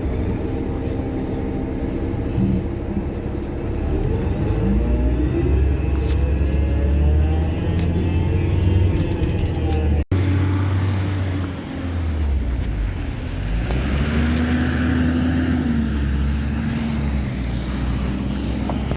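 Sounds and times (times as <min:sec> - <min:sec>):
bus engine drone: 0:00.0 - 0:18.9
road noise: 0:00.0 - 0:18.9.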